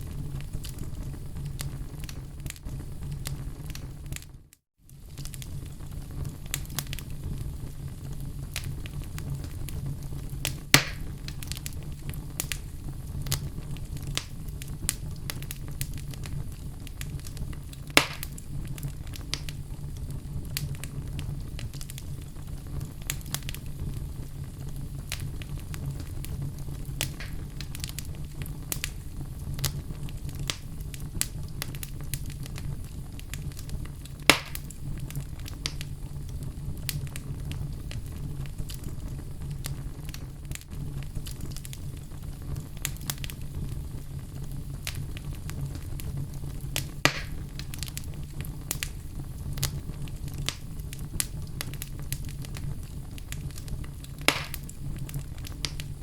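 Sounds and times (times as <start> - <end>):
loud fire pops: 0.0 - 56.0
low rumble of flame: 0.0 - 56.0
wood fire crackling: 0.0 - 56.0.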